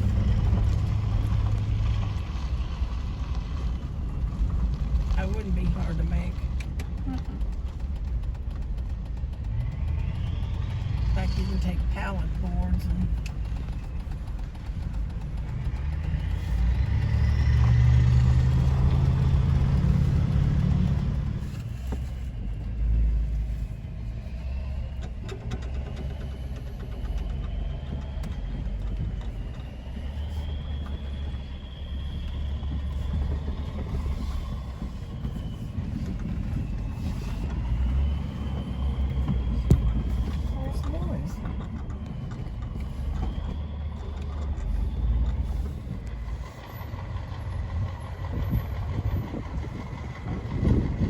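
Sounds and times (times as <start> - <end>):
engine rumbling: 0.0 - 51.0.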